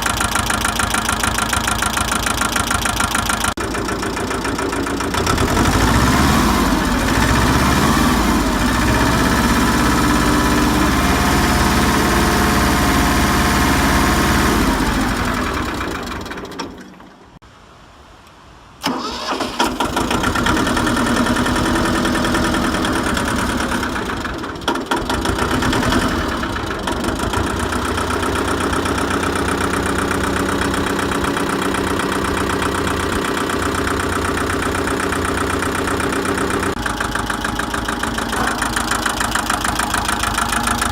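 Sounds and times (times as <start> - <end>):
engine cranking and starting: 0.0 - 17.4, 18.8 - 40.9
tractor diesel engine running: 0.0 - 17.4, 18.8 - 40.9.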